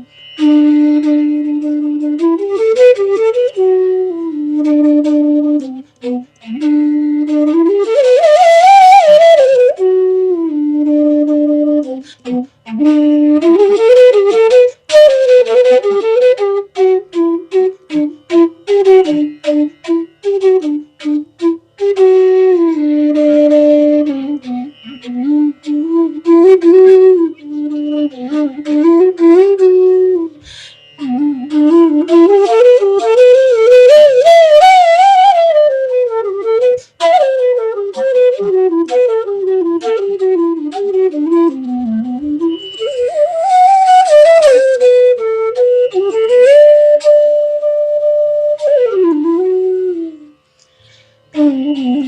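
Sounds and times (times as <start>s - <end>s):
bamboo flute melody: 0.0s - 52.0s.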